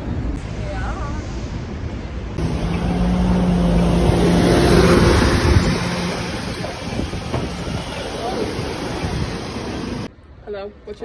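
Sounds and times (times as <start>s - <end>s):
bus engine driving past: 0.0s - 10.1s.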